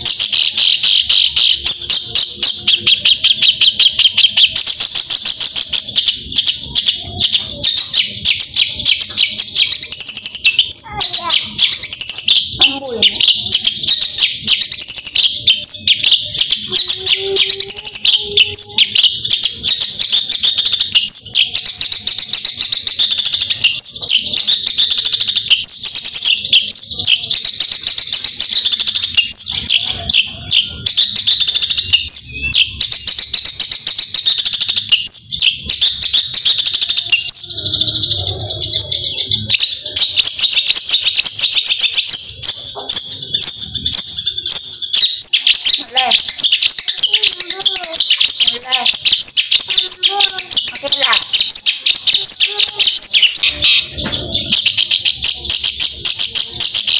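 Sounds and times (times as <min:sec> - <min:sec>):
bird singing rapid chattering notes: 0:00.0 - 0:56.9.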